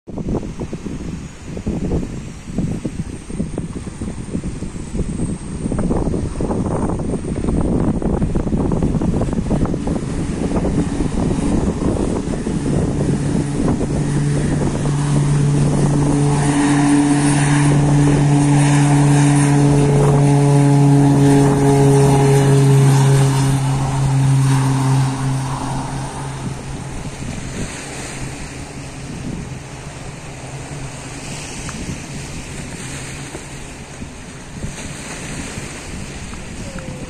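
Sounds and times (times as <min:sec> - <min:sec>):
turboprop engines droning: 0:00.2 - 0:37.0.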